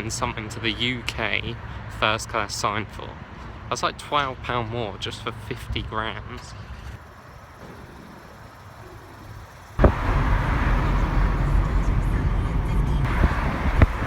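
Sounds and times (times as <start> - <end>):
outdoor noise with low rumble: 0.0 - 14.0.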